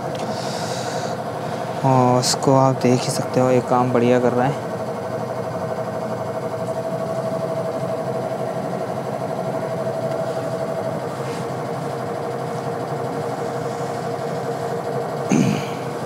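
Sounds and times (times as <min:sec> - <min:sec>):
washing machine drum spinning: 0:00.9 - 0:16.0.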